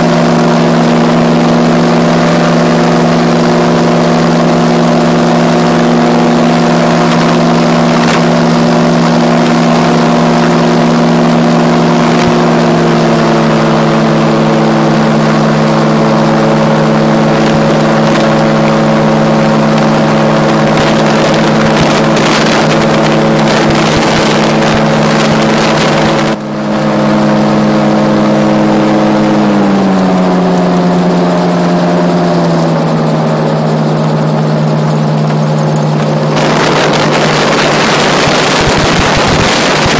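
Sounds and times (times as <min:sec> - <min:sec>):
gyroplane engine and propeller droning: 0:00.0 - 0:39.9.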